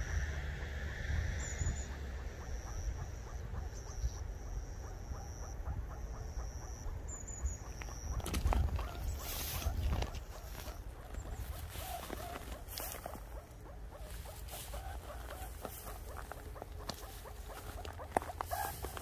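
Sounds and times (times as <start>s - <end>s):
low wind rumble: 0.0s - 19.0s
meerkat alarm calls: 1.4s - 19.0s.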